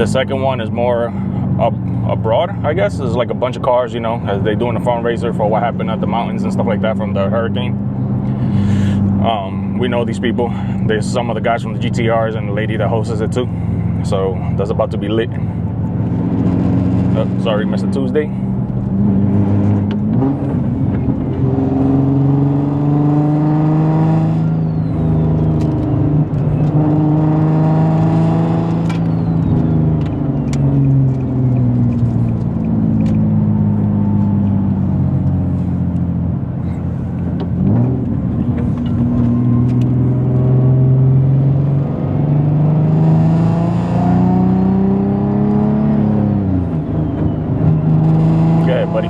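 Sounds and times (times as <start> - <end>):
sports car engine accelerating: 0.0 - 49.0.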